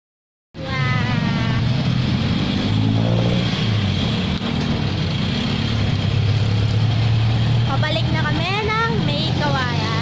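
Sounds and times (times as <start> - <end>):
engine humming: 0.6 - 10.0
street traffic: 0.6 - 10.0.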